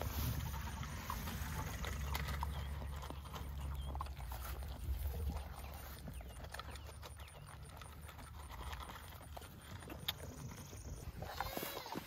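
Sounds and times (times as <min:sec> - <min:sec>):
goats crunching feed: 0:00.0 - 0:12.0.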